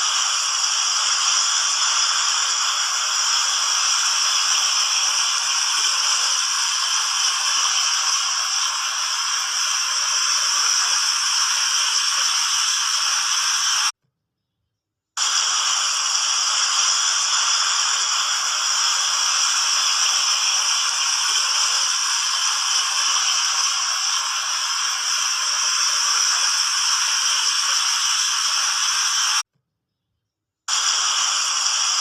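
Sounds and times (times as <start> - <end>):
water fountain hissing: 0.0 - 13.9, 15.2 - 29.4, 30.7 - 32.0.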